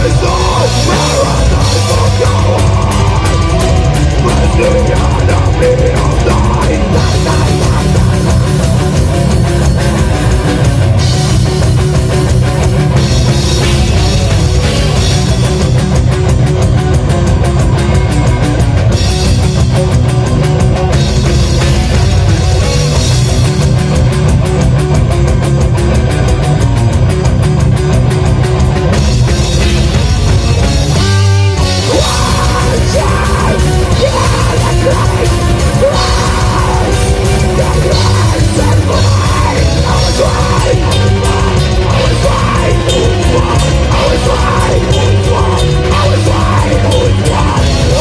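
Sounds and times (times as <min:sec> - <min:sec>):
black metal band playing: 0:00.0 - 0:48.0.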